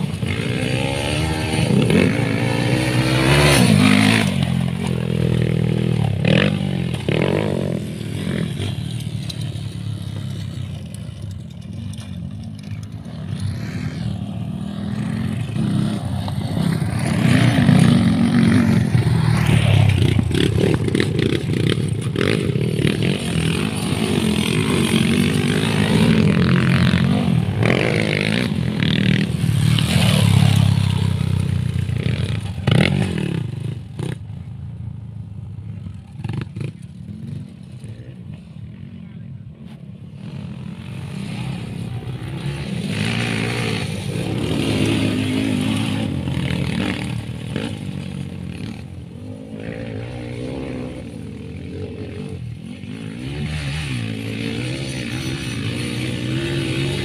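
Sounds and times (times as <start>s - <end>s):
dirt bike engine revving: 0.0s - 12.1s, 12.9s - 34.2s, 40.2s - 57.0s.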